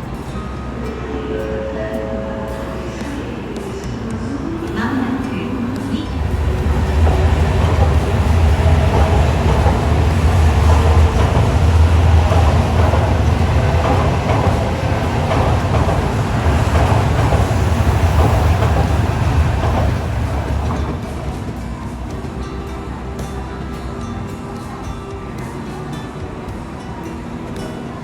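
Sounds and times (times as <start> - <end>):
train rumbling past: 0.0 - 25.6.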